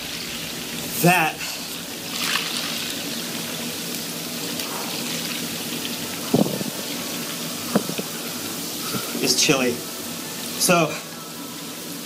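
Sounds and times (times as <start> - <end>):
water running into bathtub: 0.0 - 12.0.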